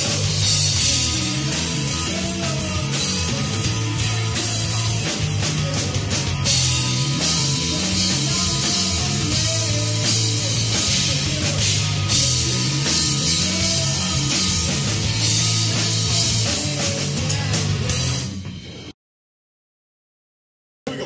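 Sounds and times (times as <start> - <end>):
live rock band playing: 0.0 - 18.9.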